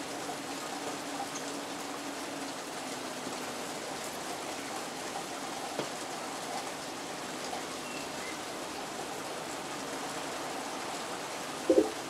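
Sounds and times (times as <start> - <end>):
rain on roof and leaves: 0.0 - 12.0.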